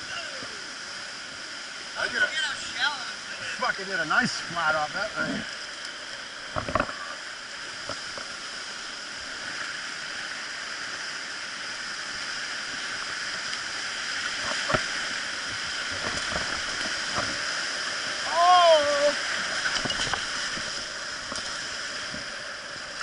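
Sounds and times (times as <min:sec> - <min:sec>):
whitewater rushing: 0:00.0 - 0:23.0.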